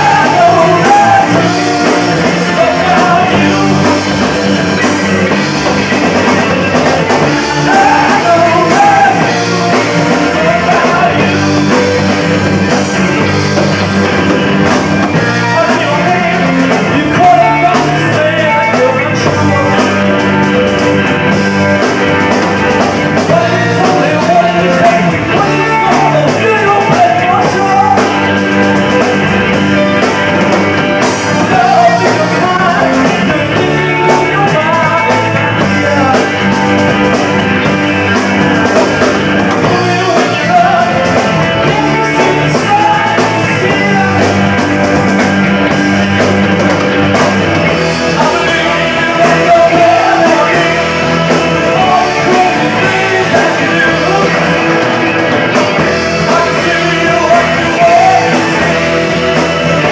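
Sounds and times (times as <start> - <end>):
person singing: 0.0 - 13.3, 14.5 - 59.9
bass guitar: 0.0 - 59.9
drum kit: 0.0 - 59.9
electric guitars: 0.0 - 59.9.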